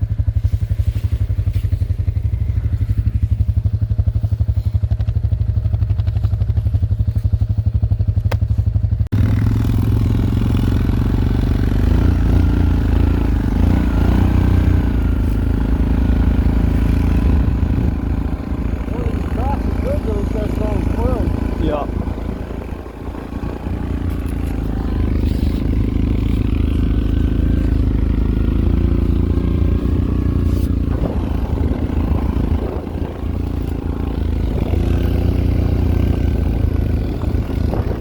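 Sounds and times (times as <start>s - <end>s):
quad bike engine running: 0.0s - 38.0s.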